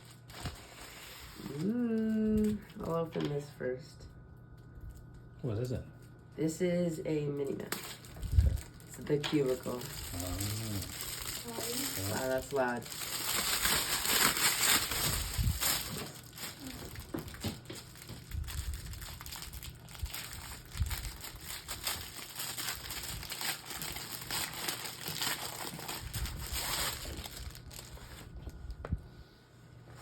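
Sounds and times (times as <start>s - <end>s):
plastic packaging crinkling: 0.0s - 3.0s, 7.4s - 28.8s.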